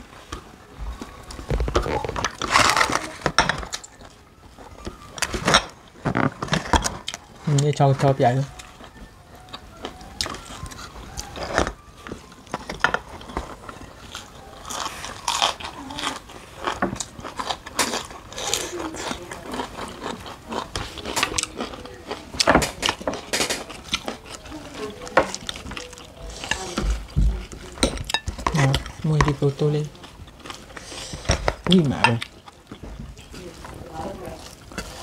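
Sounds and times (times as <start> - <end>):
crunching and chewing vegetables: 0.0 - 35.0.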